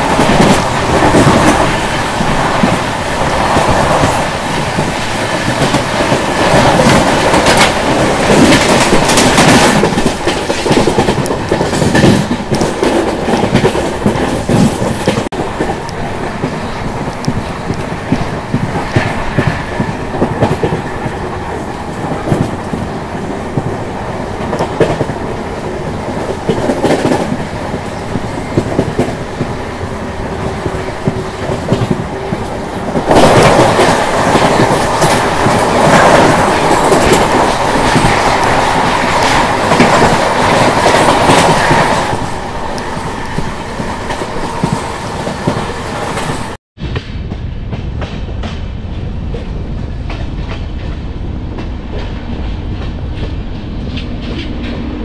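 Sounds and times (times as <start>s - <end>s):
wheels clicking over rail joints: 0.0s - 46.6s
moving train rushing: 0.0s - 55.0s
passing train on next track: 0.0s - 55.0s.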